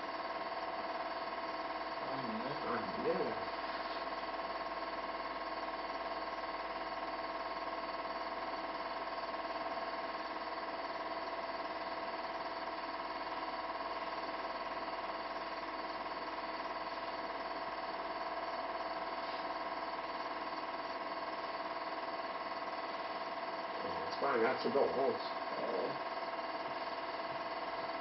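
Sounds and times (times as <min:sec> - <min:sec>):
machine hum with held tones: 0:00.0 - 0:28.0.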